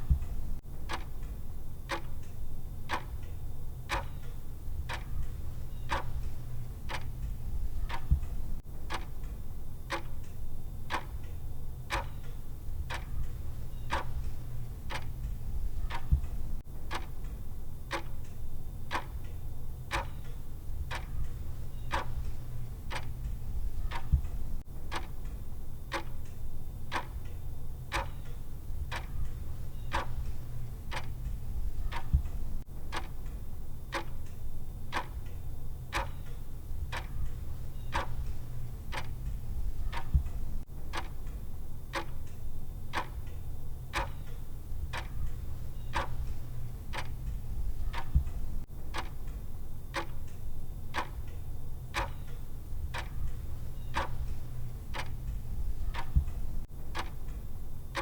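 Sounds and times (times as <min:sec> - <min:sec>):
low steady hum: 0:00.0 - 0:58.0
timer ticking: 0:00.0 - 0:58.0.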